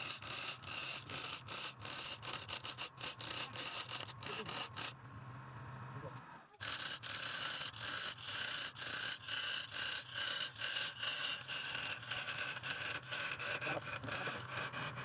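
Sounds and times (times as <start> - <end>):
lathe tool scraping wood: 0.0 - 5.0, 6.6 - 15.0.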